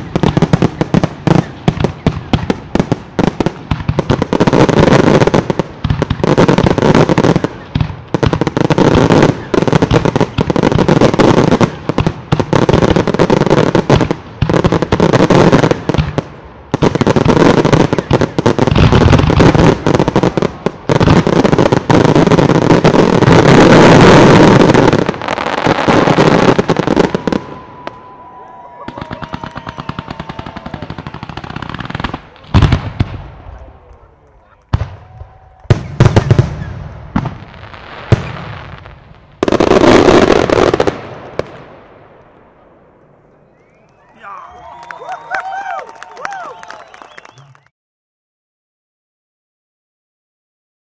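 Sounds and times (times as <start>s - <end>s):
fireworks bangs and crackle: 0.0s - 43.9s.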